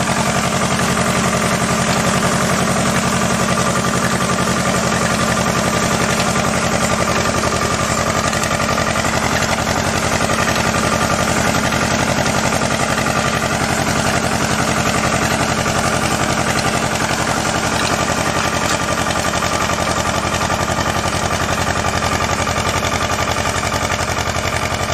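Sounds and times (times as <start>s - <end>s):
tractor engine chugging: 0.0s - 24.9s.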